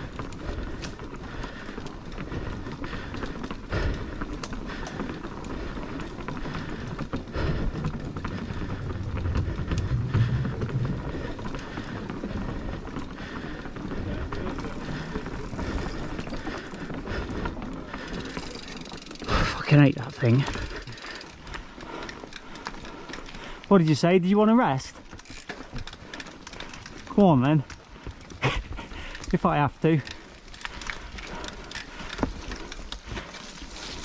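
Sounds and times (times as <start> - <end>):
bike knocking and rattling: 0.0 - 34.0
bike tyres rolling rumble: 0.0 - 34.0.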